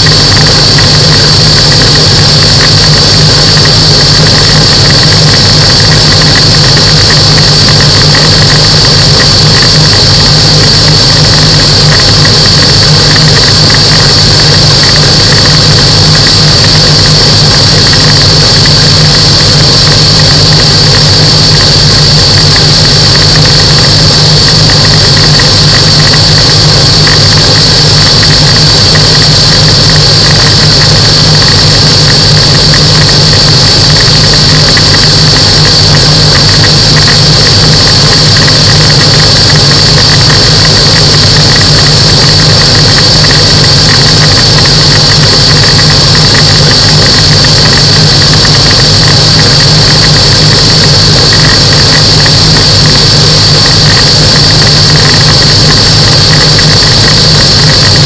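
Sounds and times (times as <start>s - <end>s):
high-pitched whine: 0.0s - 58.0s
light aircraft engine and propeller: 0.0s - 58.0s.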